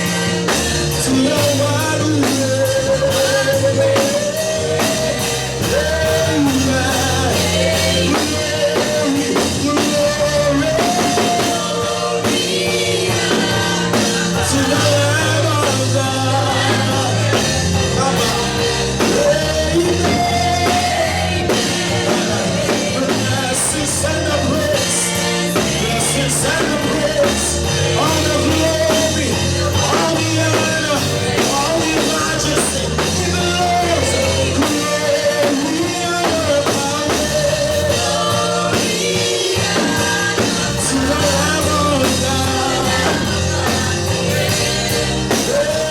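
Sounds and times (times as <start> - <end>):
band playing worship music: 0.0 - 45.9
people singing: 0.0 - 45.9.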